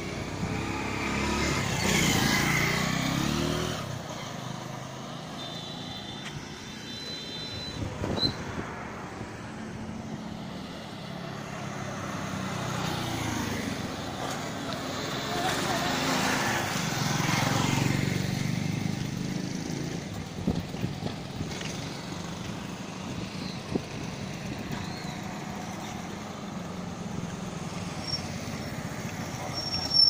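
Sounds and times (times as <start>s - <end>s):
motorcycle engines running: 0.0s - 5.3s, 9.4s - 30.0s
wind and road noise: 0.0s - 30.0s.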